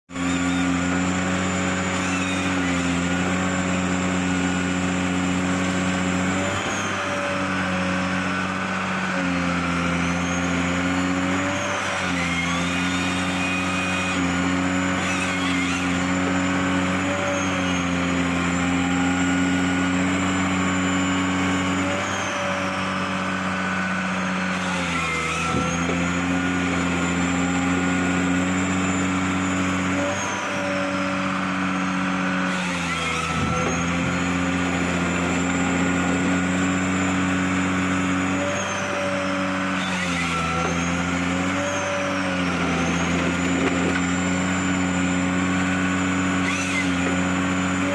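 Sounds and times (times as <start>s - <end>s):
diesel engine running: 0.0s - 47.9s
high machine whine: 0.2s - 47.9s.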